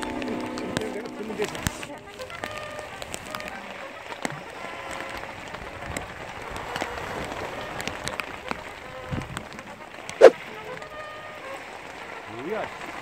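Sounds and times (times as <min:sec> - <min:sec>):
large raindrops pattering: 0:00.0 - 0:13.0.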